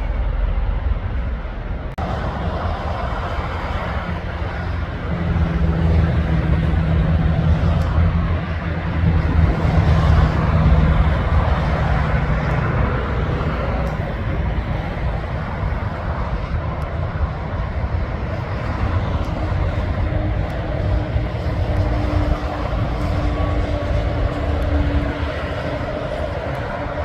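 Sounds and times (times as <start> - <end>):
heavy truck passing: 0.0 - 27.0
traffic and tyre noise: 0.0 - 27.0.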